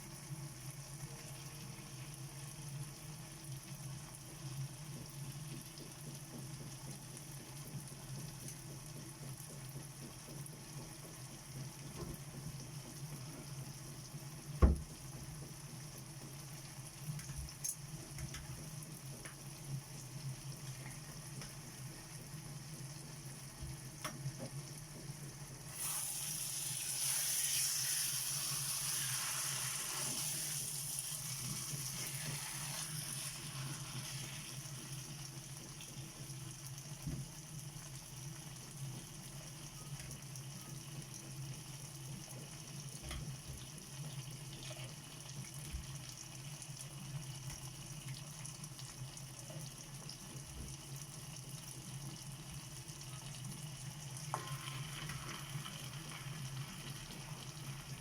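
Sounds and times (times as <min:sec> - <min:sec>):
vegetables sizzling in a pan: 0:10.9 - 0:58.0.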